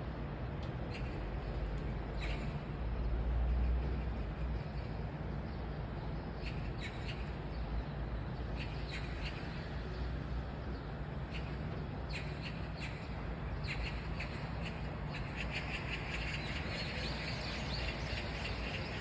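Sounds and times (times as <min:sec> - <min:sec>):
distant traffic: 0:00.0 - 0:19.0
wind: 0:00.0 - 0:19.0.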